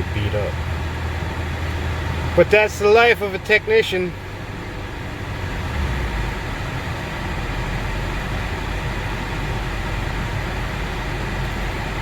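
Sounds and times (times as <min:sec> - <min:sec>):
air conditioning hiss: 0:00.0 - 0:12.0
car engine humming: 0:00.0 - 0:12.0.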